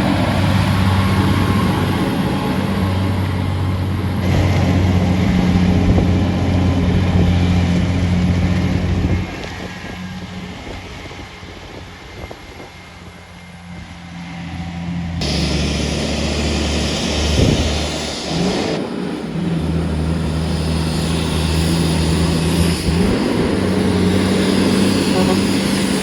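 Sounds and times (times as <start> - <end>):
truck diesel engine under load: 0.0 - 26.0.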